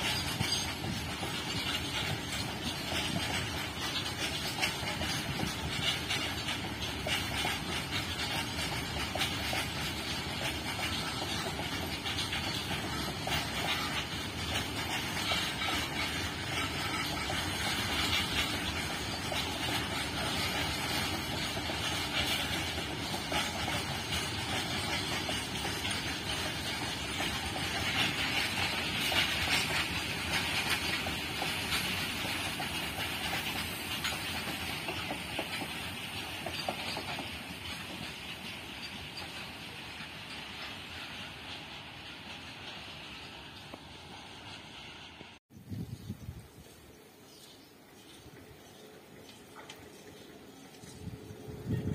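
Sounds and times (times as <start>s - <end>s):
wheels clacking over rail joints: 0.0s - 45.4s, 46.5s - 51.9s
train wheels rushing on rails: 0.0s - 51.9s.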